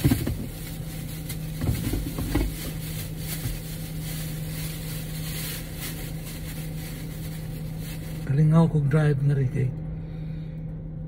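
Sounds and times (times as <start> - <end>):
car cabin hum: 0.0 - 11.0.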